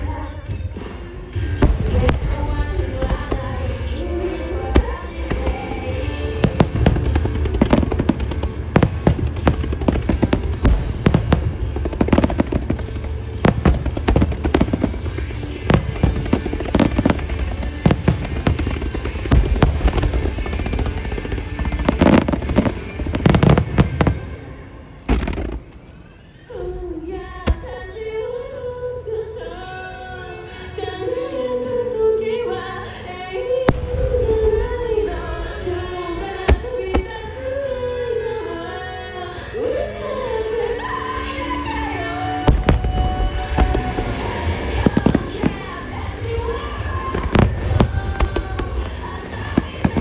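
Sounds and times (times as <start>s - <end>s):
fireworks bursting: 0.0s - 26.4s, 33.6s - 50.0s.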